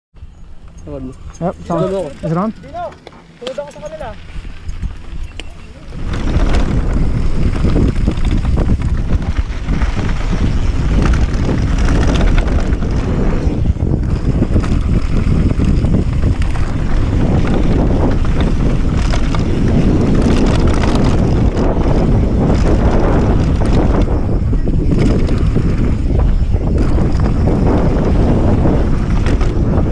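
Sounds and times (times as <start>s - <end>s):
wind buffeting microphone: 0.2s - 29.9s
bike chattering over bumps: 0.6s - 29.9s
tyres rolling over gravel: 0.8s - 29.9s.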